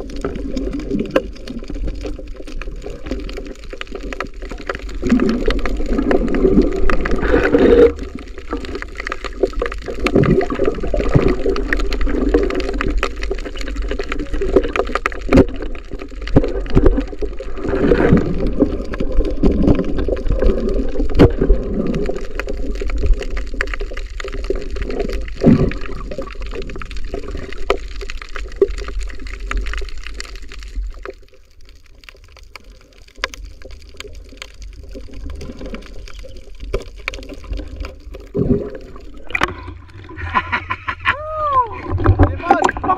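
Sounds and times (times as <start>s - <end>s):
muffled underwater gurgling: 0.0s - 27.6s, 34.9s - 42.9s.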